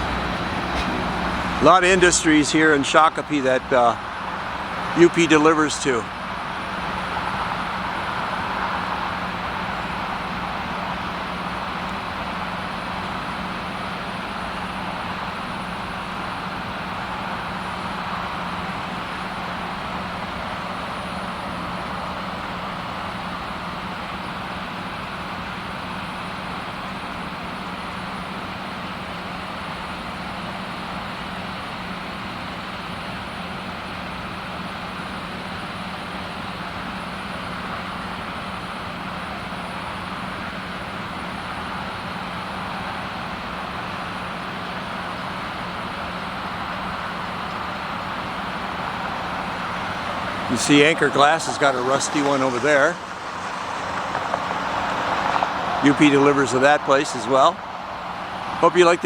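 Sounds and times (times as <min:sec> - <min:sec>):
vehicle running noise: 0:00.0 - 0:59.0.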